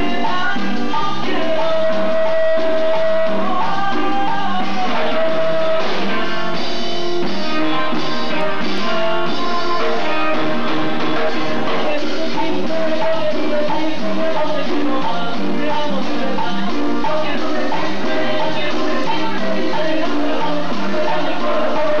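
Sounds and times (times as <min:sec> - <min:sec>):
electric guitar: 0:00.0 - 0:22.0
live latin dance band: 0:00.0 - 0:22.0.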